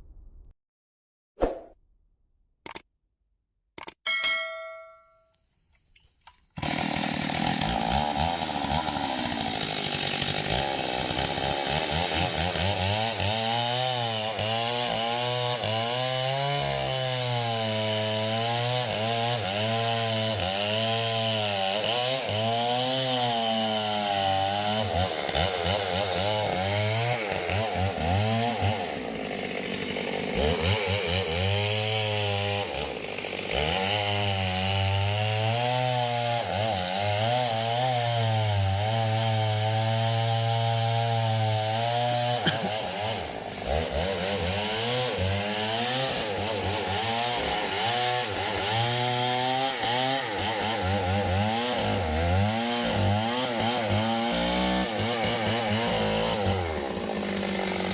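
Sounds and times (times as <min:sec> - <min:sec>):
chainsaw cutting tree trunk: 0:06.4 - 0:57.9.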